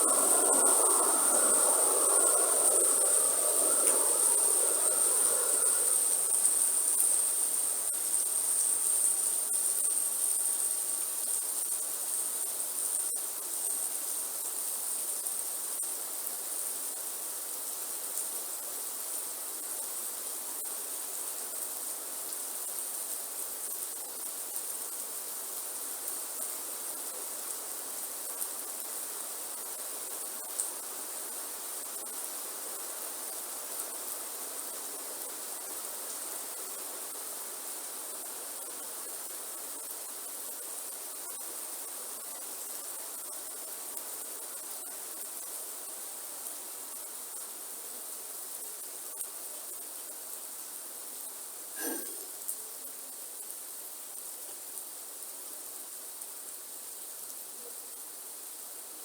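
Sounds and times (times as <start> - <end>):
insect drone: 0.0 - 54.4
rain hiss: 0.0 - 59.0.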